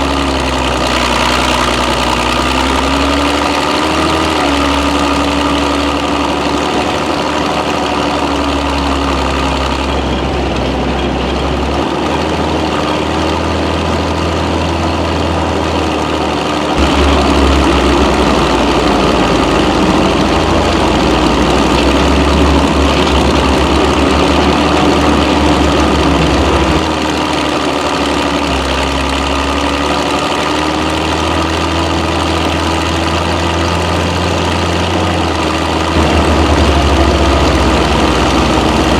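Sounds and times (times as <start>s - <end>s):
tank engine running: 0.0s - 38.9s.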